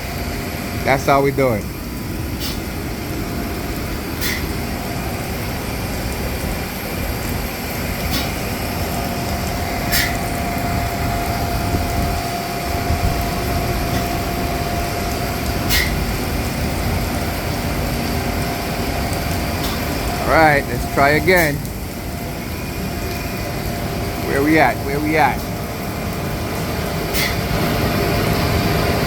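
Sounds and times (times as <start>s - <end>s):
machinery rumbling: 0.0s - 29.0s.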